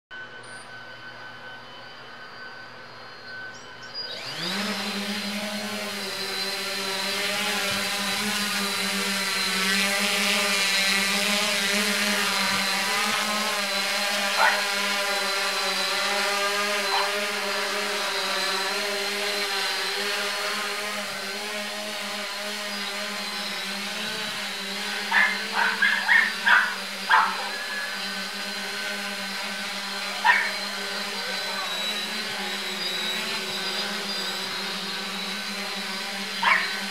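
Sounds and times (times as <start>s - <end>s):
drone propellers whining: 0.1s - 36.9s.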